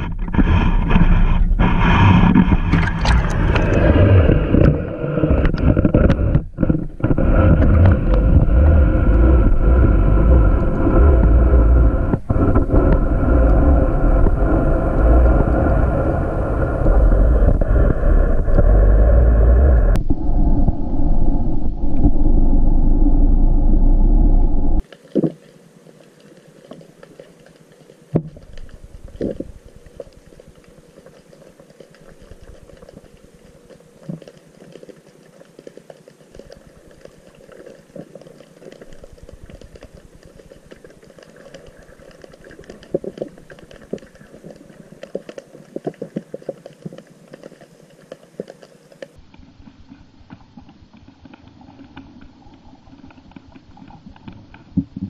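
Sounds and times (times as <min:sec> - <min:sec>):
underwater crackling clicks: 0:00.0 - 0:20.0, 0:24.8 - 0:49.2.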